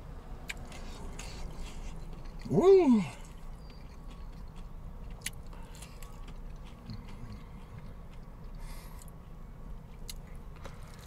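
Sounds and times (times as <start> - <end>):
steady low hum: 0.0 - 11.0
person chewing crunchy food: 0.4 - 11.0.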